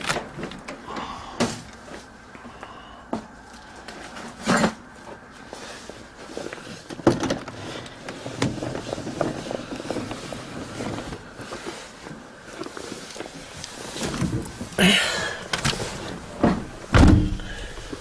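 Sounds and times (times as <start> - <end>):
shuffling and rustling: 0.0 - 18.0.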